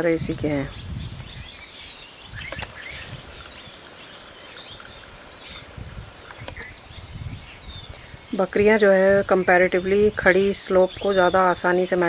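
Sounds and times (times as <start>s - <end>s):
small birds chirping and trilling: 0.0s - 12.0s.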